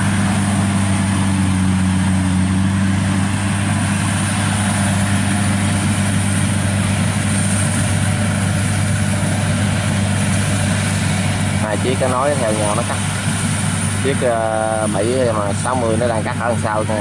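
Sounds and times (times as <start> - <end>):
combine harvester diesel engine drone: 0.0 - 17.0.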